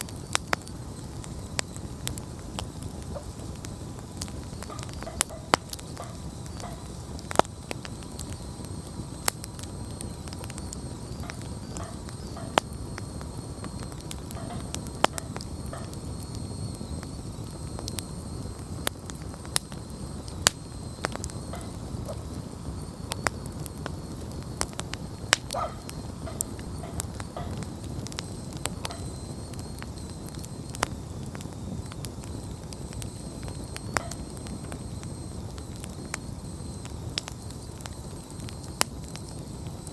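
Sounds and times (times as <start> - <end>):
campfire crackling and popping: 0.0 - 39.9
low rush of flames: 0.0 - 39.9.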